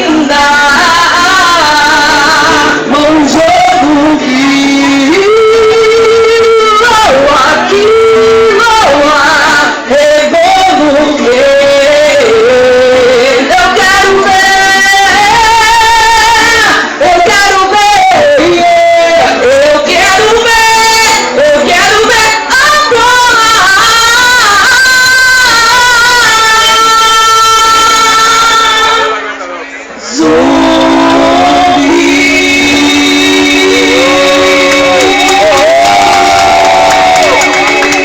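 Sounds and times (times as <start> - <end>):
women singing wordless melody: 0.0 - 29.2, 30.1 - 38.0.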